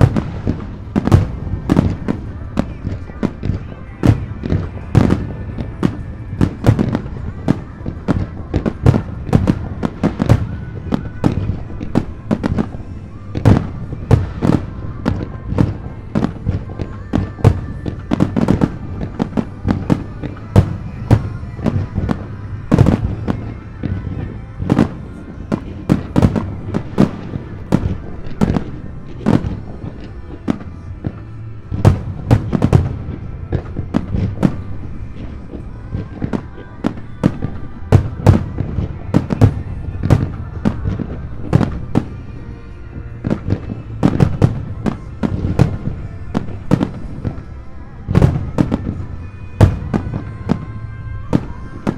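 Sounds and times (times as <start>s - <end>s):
music playing: 0.0s - 51.9s.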